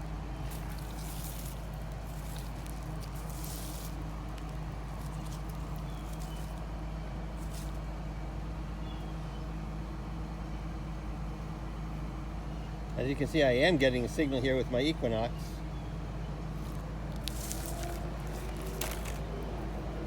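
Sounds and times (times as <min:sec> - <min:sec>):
excavator diesel engine running: 0:00.0 - 0:12.9, 0:15.6 - 0:20.0.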